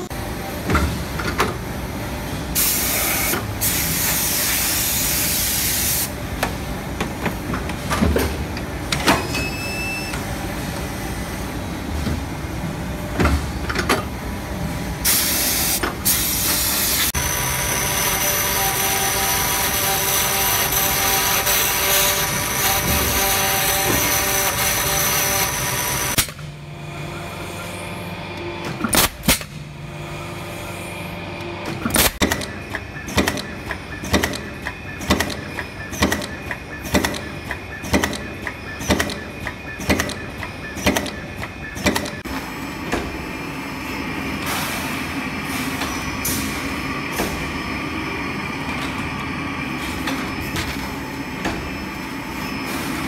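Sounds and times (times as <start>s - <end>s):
machine hum with whine: 0.0s - 53.0s.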